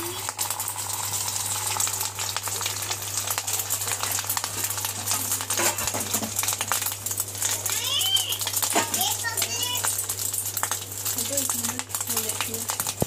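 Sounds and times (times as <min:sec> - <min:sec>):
egg sizzling in hot oil: 0:00.0 - 0:13.0.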